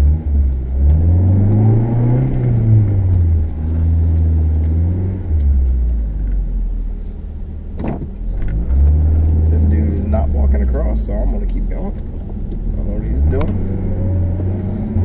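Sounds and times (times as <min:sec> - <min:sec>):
car engine accelerating: 0:00.0 - 0:07.1, 0:07.7 - 0:15.0.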